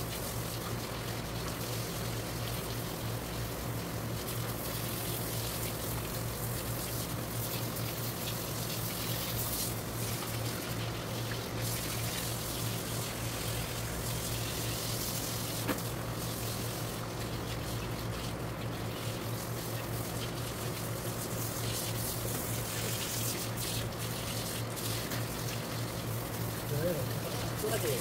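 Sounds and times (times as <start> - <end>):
hose water spraying and splashing: 0.0 - 28.0.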